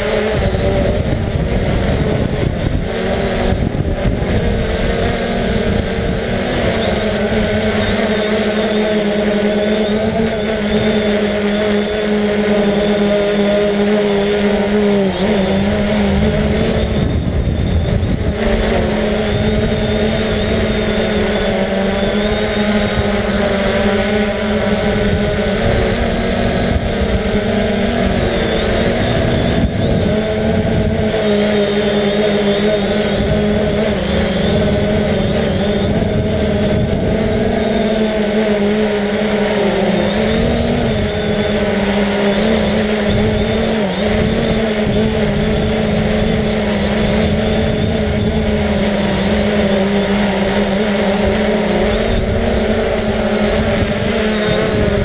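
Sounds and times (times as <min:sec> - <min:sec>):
low wind rumble: 0:00.0 - 0:55.0
quadcopter motors droning: 0:00.0 - 0:55.0.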